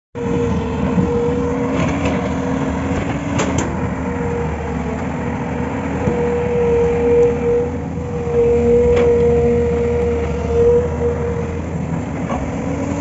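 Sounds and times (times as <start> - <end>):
excavator diesel engine running: 0.2 - 13.0.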